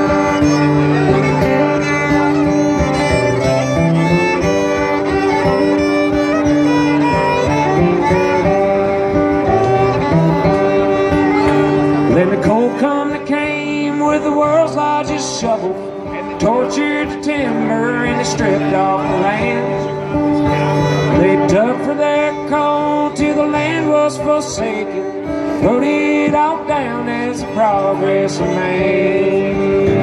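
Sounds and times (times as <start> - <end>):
fiddle playing: 0.0 - 30.0
strummed acoustic guitar: 0.0 - 30.0.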